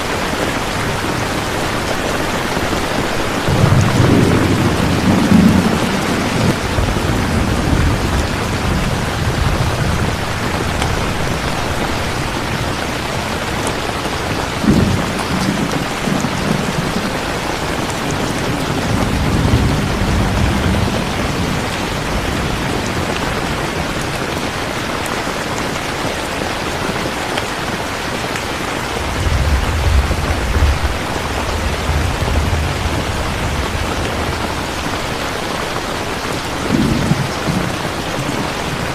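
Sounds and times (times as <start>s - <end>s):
thunder rumbling: 0.0s - 25.8s, 27.8s - 38.9s
heavy rain: 0.0s - 38.9s.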